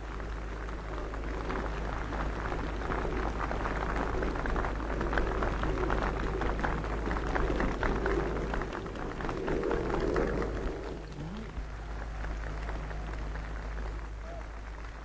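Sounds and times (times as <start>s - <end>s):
crowd clapping and cheering: 0.0s - 15.0s
steady low hum: 0.0s - 15.0s.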